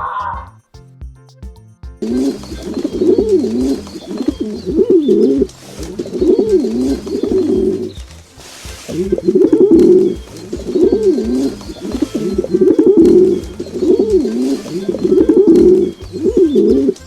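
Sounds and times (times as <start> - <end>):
birds cooing: 2.0 - 17.0.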